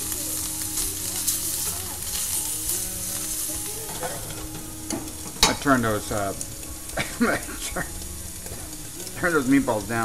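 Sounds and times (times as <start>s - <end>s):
food sizzling in pans: 0.0s - 10.0s.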